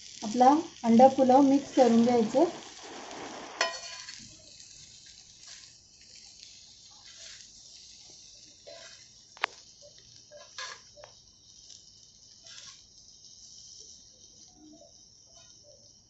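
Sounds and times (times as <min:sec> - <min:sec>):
rice sizzling in a pan: 0:00.0 - 0:16.0.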